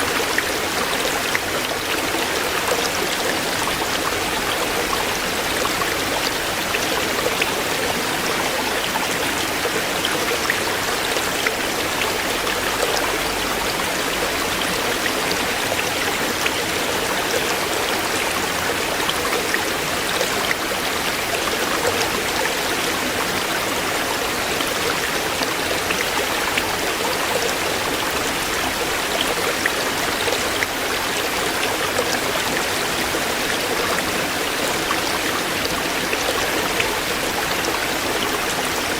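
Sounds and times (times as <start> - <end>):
stream running over stones: 0.0 - 38.9
water splashing and trickling: 0.0 - 38.9.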